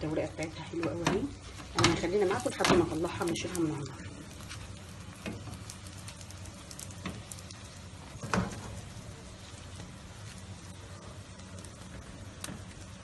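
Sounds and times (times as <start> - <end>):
pastry sizzling in pan: 0.0 - 13.0.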